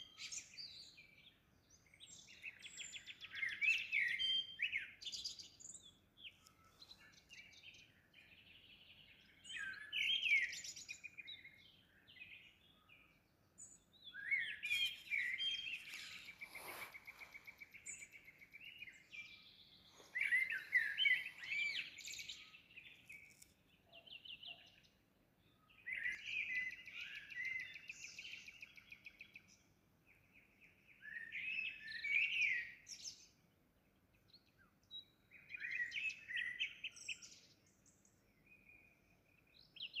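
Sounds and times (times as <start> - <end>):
songbirds chirping and trilling: 0.0 - 40.0.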